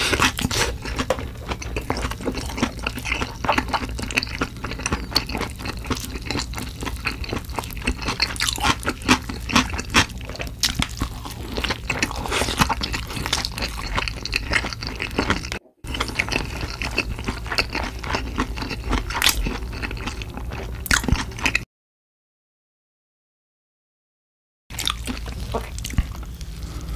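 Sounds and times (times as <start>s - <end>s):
person chewing crunchy food: 0.0s - 21.6s, 24.7s - 26.9s.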